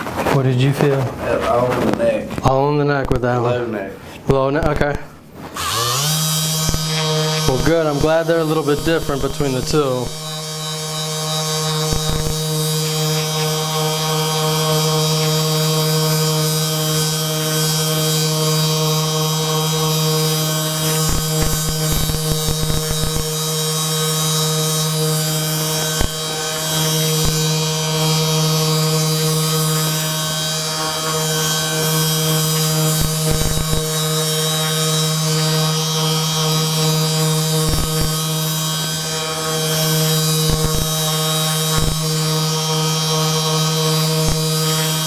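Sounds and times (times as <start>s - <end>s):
electric buzzing hum: 0.0s - 45.0s.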